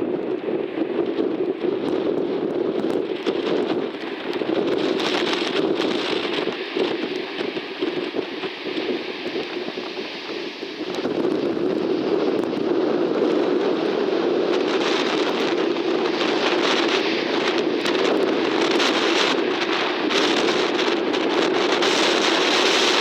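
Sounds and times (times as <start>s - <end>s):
jet engine rumble: 0.0s - 23.0s
wind buffeting microphone: 0.0s - 23.0s.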